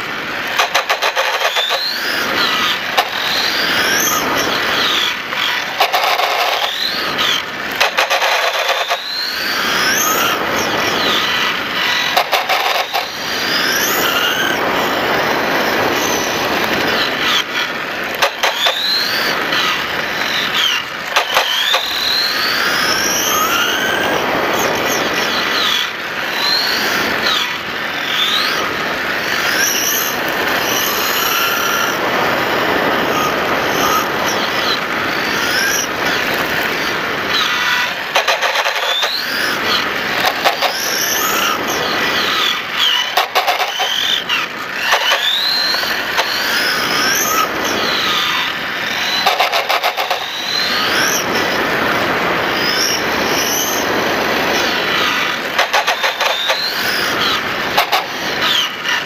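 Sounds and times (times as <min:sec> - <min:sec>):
model motorcycle motor revving: 0:00.0 - 0:59.0.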